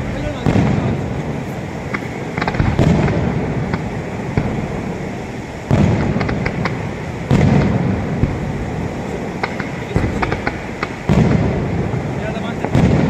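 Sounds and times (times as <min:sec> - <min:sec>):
firework booms with rumbling echo: 0:00.0 - 0:13.0
sharp firework cracks: 0:00.0 - 0:13.0.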